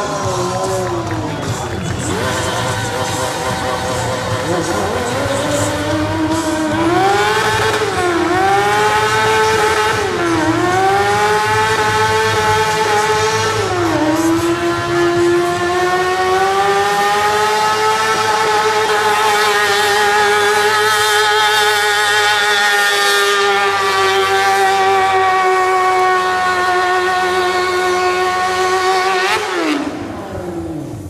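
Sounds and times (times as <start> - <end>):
motorcycle engine revving high: 0.0 - 31.0.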